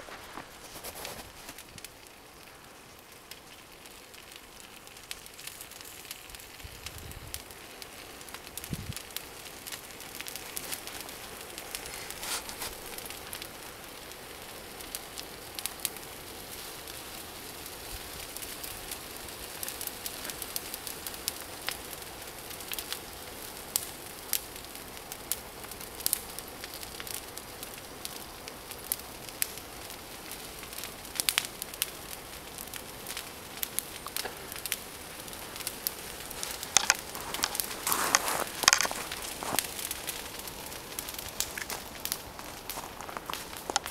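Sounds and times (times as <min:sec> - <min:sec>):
bonfire crackling and hissing: 0:00.0 - 0:43.9.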